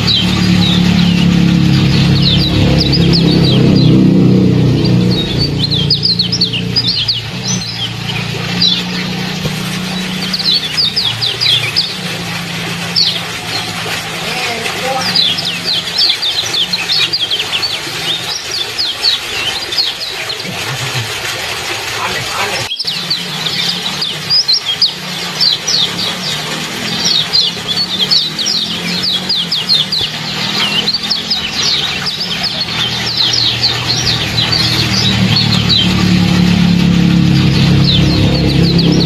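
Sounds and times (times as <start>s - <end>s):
songbird chirp calls: 0.0s - 20.9s, 22.0s - 39.0s.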